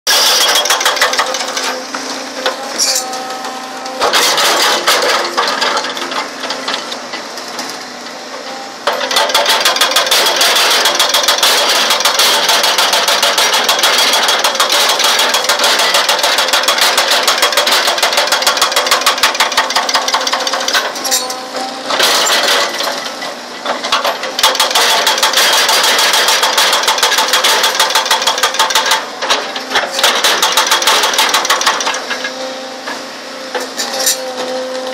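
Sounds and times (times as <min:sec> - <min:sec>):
hydraulic breaker hammering rock: 0:00.1 - 0:34.9.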